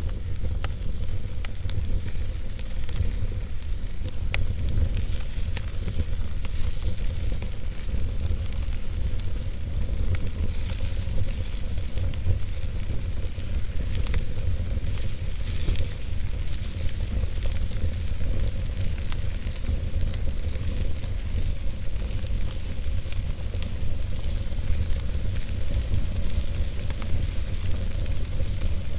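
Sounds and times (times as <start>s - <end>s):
fire crackling and hissing: 0.0s - 28.9s
sharp fire pops: 0.0s - 28.9s.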